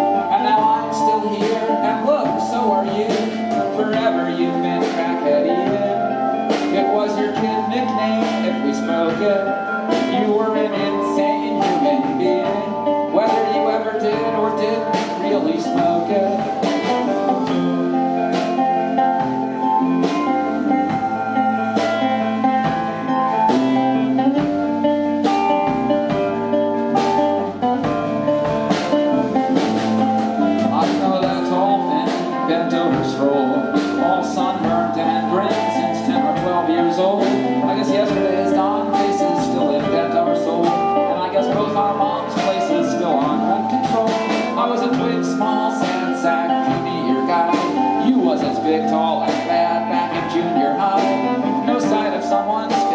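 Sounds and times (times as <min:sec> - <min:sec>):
bass guitar: 0:00.0 - 0:52.9
drums keeping a steady beat: 0:00.0 - 0:52.9
guitars: 0:00.0 - 0:52.9.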